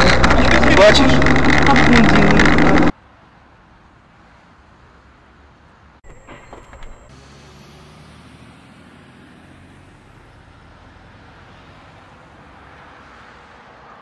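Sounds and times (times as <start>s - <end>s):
vehicle engine and tyre rumble: 0.0s - 14.0s.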